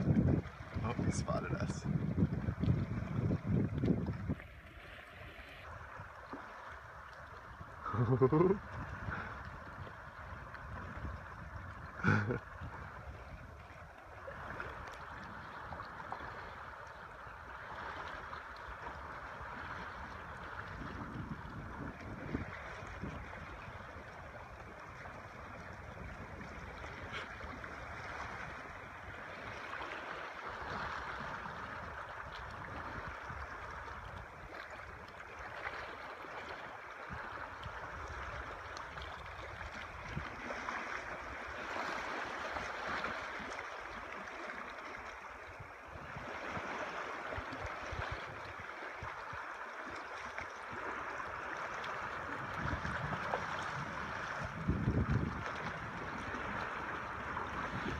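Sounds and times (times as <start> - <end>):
waves lapping and splashing: 0.0 - 57.9.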